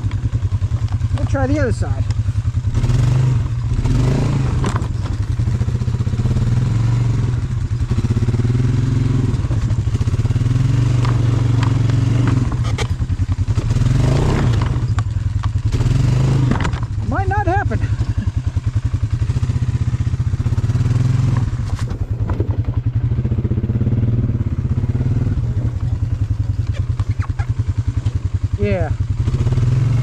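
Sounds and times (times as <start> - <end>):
atv engine running under load: 0.0 - 30.0.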